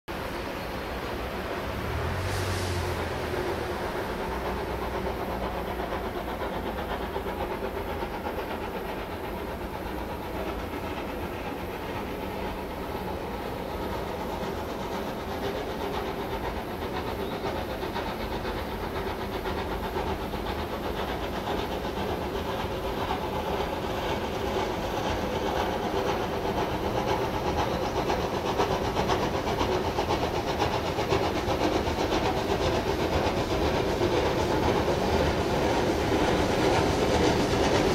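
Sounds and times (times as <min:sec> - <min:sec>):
steam hissing: 0:00.1 - 0:37.9
steam train running: 0:00.1 - 0:37.9.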